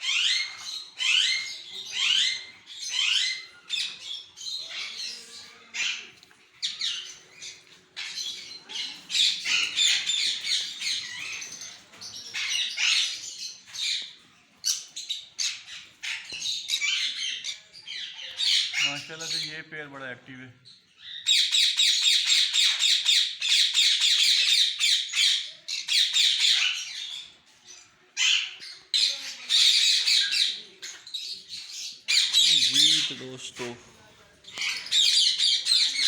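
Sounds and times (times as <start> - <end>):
small birds chirping and squawking: 0.0 - 36.0.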